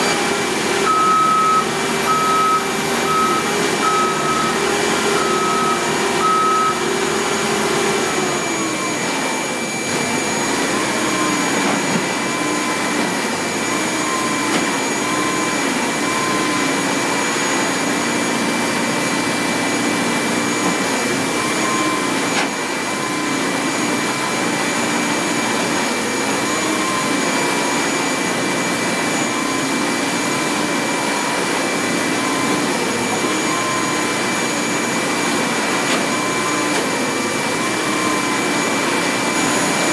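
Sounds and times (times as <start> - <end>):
reversing beeper: 0.0 - 17.9, 19.3 - 35.3, 36.0 - 39.9
cargo loader engine whining: 0.0 - 39.9.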